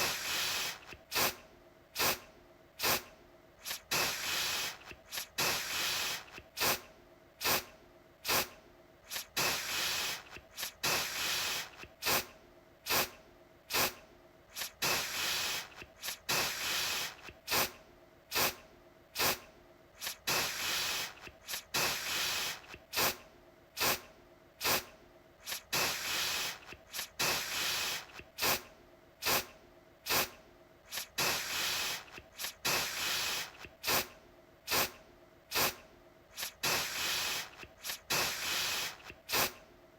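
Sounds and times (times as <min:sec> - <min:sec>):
aerosol can spraying: 0:00.0 - 0:01.4, 0:02.0 - 0:02.2, 0:02.8 - 0:12.3, 0:12.9 - 0:18.6, 0:19.2 - 0:19.4, 0:20.0 - 0:23.2, 0:23.8 - 0:34.1, 0:34.7 - 0:39.6.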